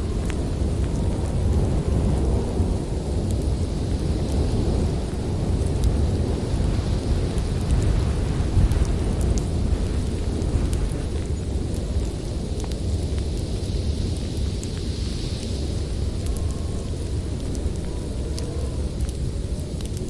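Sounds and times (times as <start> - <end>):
wind blowing with deep rumble: 0.0 - 20.0
wood fire crackling: 0.0 - 20.0.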